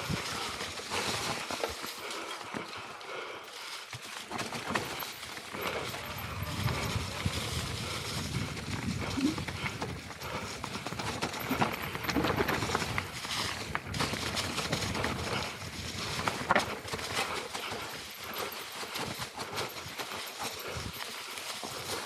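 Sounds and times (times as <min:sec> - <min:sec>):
bike clattering and rattling: 0:00.0 - 0:22.0
tyres crunching over leaves and stones: 0:00.0 - 0:22.0.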